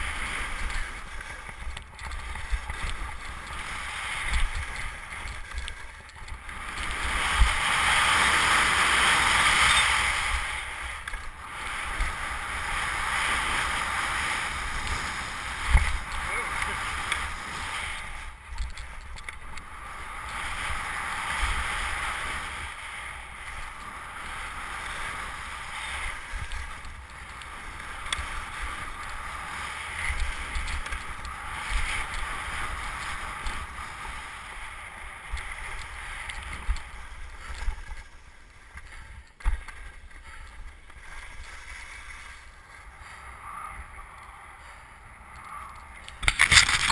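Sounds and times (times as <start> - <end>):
skis scraping over snow: 0.0 - 46.9.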